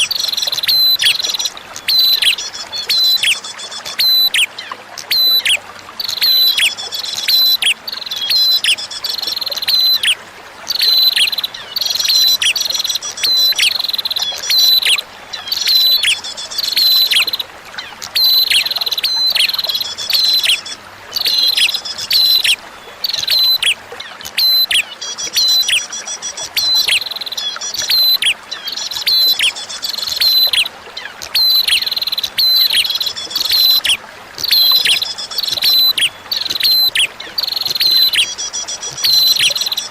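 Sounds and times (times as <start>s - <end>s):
bird singing trills: 0.0s - 39.9s
trickling water hiss: 0.0s - 39.9s.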